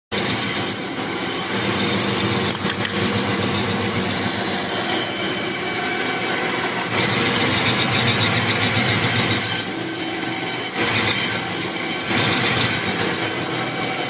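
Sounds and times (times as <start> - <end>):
cnc machine humming and whining: 0.2 - 14.0.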